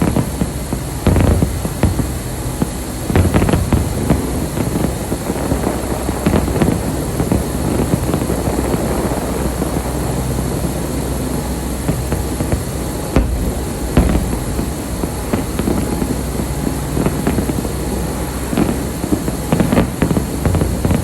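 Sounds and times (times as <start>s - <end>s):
fireworks bursts and crackling: 0.0s - 21.0s
steady low rumble: 0.0s - 21.0s.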